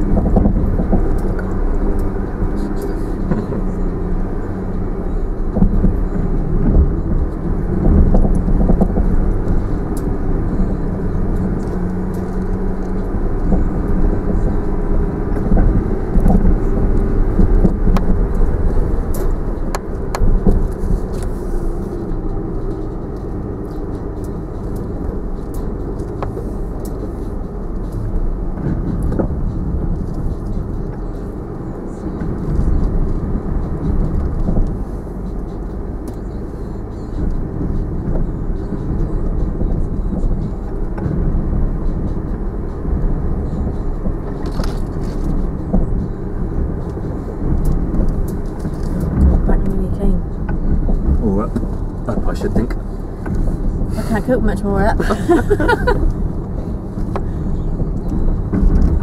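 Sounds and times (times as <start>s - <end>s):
engine and drivetrain drone: 0.0s - 59.0s.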